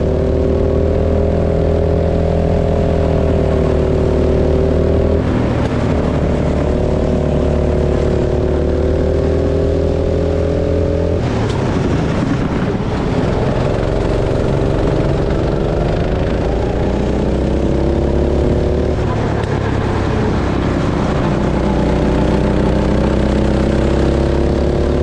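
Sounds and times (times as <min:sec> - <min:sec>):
go-kart engine running: 0:00.0 - 0:25.0.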